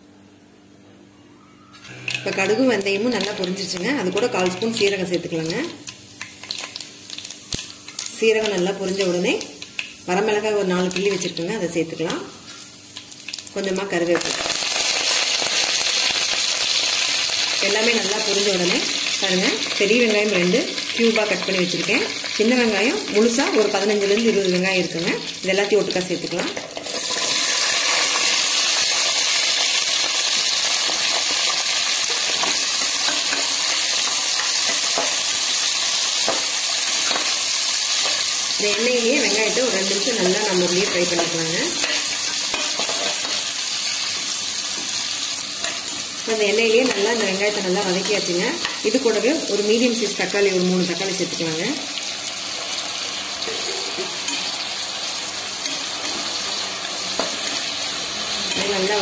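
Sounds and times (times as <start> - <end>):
onions sizzling in oil: 1.8 - 59.0.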